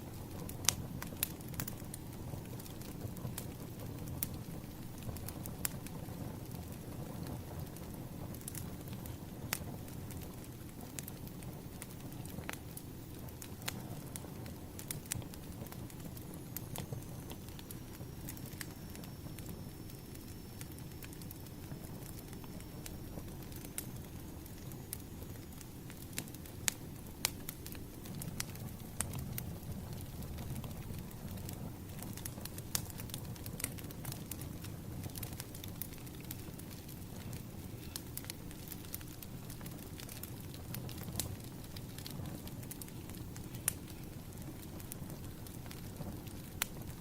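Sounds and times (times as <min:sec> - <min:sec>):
firewood crackling and popping: 0:00.0 - 0:47.0
low rumble of fire: 0:00.0 - 0:47.0.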